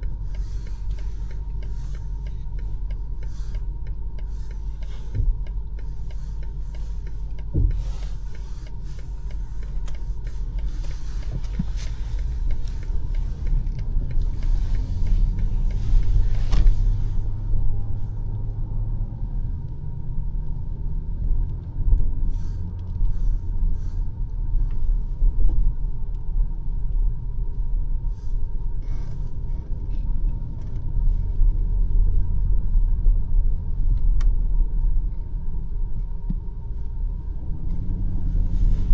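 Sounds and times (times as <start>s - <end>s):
car engine and tyres rumbling: 0.0s - 38.9s
road noise hiss: 0.0s - 38.9s.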